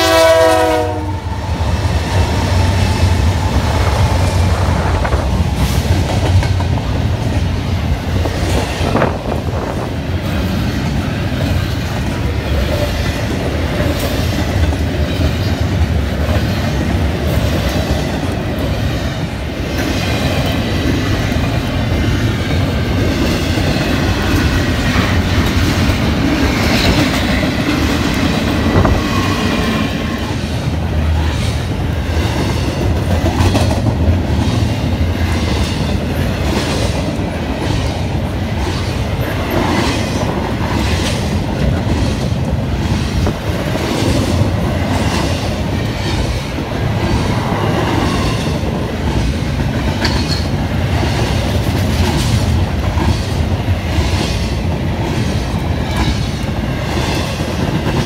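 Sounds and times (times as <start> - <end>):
clickety-clack of rail joints: 0.0 - 58.0
train wheels rumbling on rail: 0.0 - 58.0.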